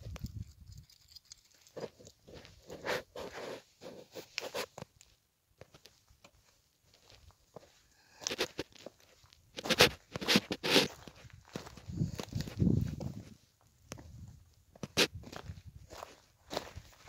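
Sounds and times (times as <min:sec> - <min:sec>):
footsteps crunching on rock and grit: 0:01.7 - 0:17.0.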